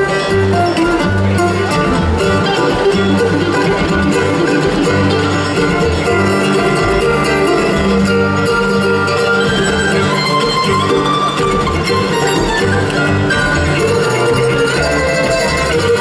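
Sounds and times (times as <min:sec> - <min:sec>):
live country band with fiddle and guitar: 0:00.0 - 0:16.0.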